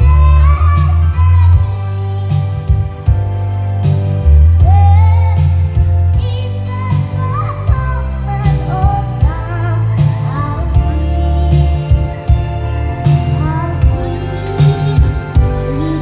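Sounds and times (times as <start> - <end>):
girl singing: 0.0 - 3.1, 4.6 - 16.0
backing track with heavy bass: 0.0 - 16.0.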